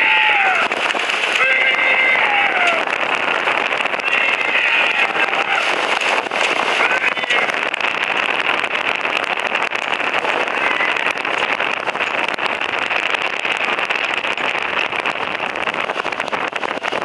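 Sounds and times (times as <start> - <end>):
vehicle driving on dirt track: 0.0 - 17.0.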